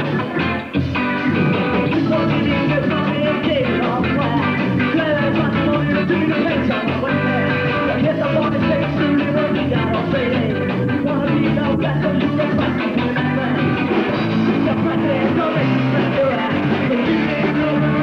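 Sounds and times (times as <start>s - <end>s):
electric guitars: 0.0s - 18.0s
keyboard: 0.0s - 18.0s
person singing into microphone: 0.0s - 18.0s.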